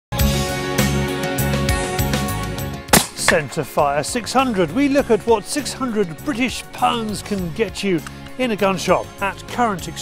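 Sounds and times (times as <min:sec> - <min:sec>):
background music with steady beat: 0:00.1 - 0:10.0.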